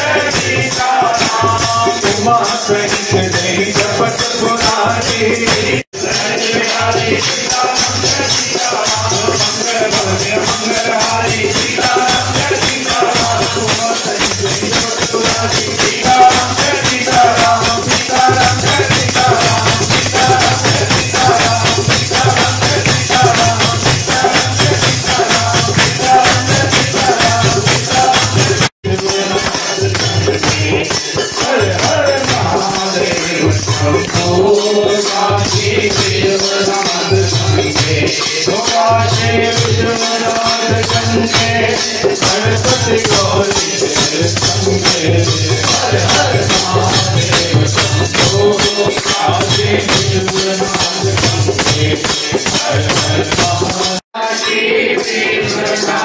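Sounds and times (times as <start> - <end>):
hand percussion shaking rhythm: 0.0 - 56.0.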